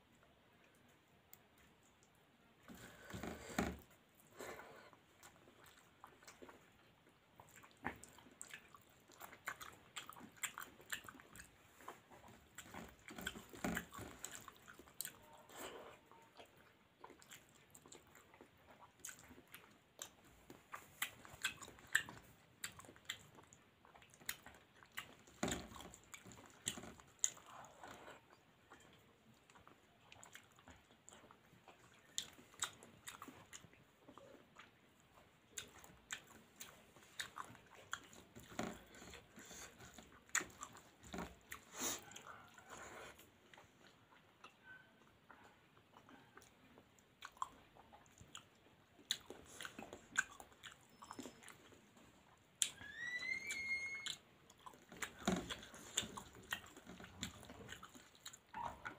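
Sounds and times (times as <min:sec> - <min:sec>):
person chewing with wet smacks: 0:00.0 - 0:58.9.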